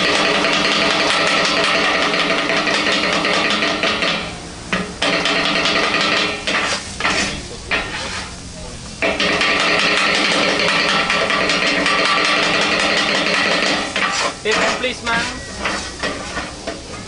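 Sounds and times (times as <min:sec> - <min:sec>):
metal utensils clattering on griddle: 0:00.0 - 0:08.3, 0:09.0 - 0:17.0
food sizzling: 0:00.0 - 0:17.0
steady hum: 0:00.0 - 0:17.0.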